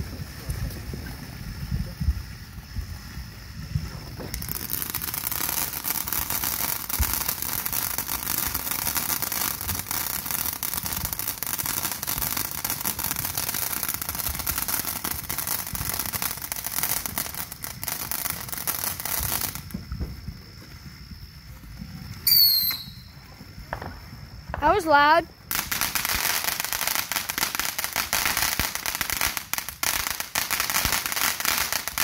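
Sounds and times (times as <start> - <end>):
firework spinner hissing and crackling: 0.0 - 32.0.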